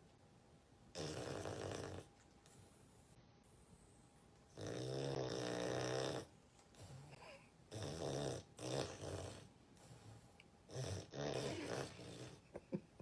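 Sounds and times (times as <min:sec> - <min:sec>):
dog snoring: 0:00.9 - 0:12.4.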